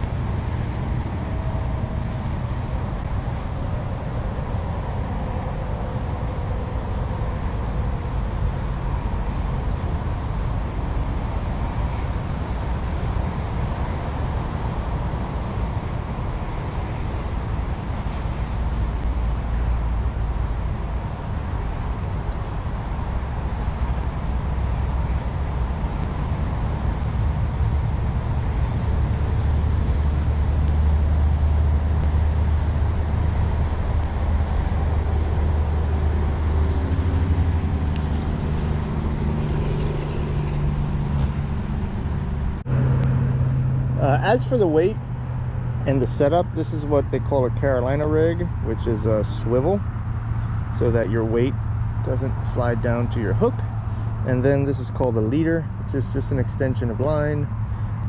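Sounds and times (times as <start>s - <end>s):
highway traffic rumble: 0.0s - 58.0s.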